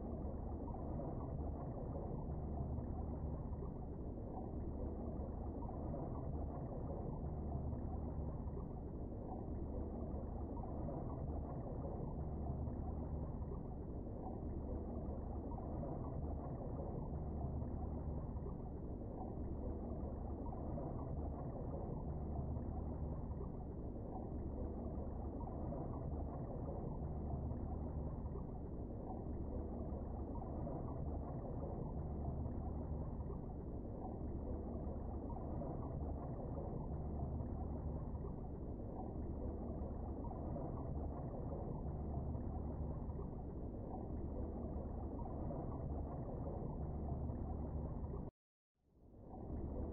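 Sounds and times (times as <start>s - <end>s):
muffled underwater rumble: 0.0s - 48.3s, 49.0s - 49.9s.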